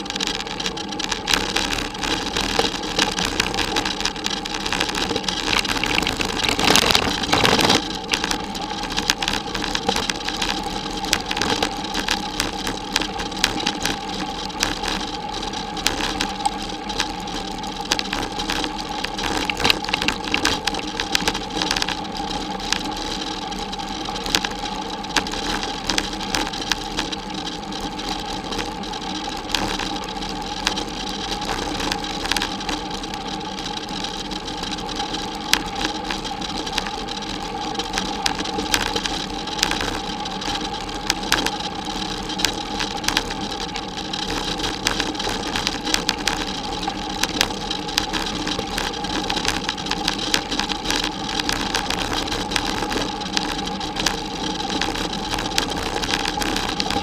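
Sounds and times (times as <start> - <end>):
bicycle rattling on dirt track: 0.0 - 57.0
faint steady whine: 0.0 - 57.0
steady hum: 0.0 - 57.0.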